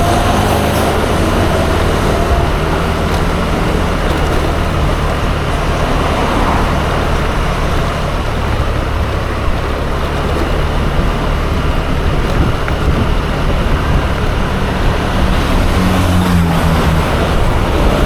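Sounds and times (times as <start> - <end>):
road noise: 0.0 - 18.0
scooter engine running: 0.0 - 18.0
wind rushing over microphone: 0.0 - 18.0.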